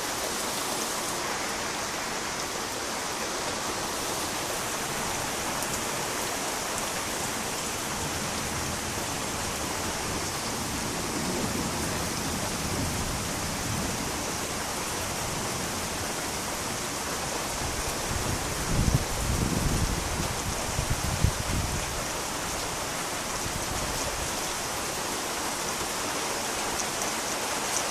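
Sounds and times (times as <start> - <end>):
heavy rain hissing: 0.0 - 27.9.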